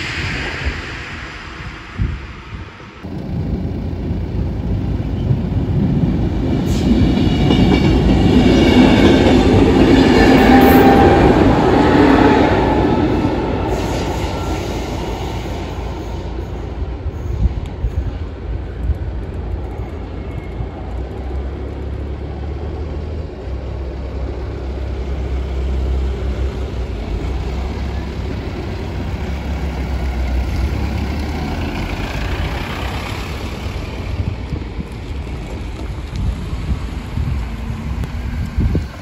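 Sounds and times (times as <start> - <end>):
road traffic rumble: 2.9 - 39.0.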